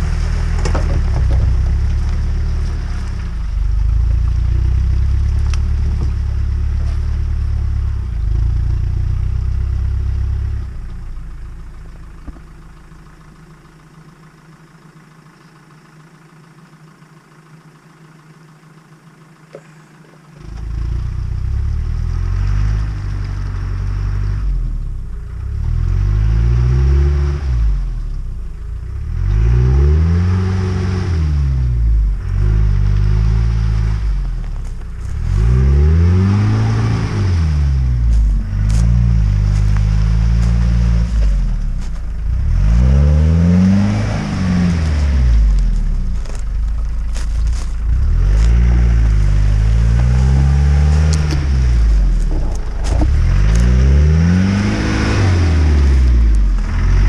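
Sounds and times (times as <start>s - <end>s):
engine labouring and revving: 0.0s - 57.0s.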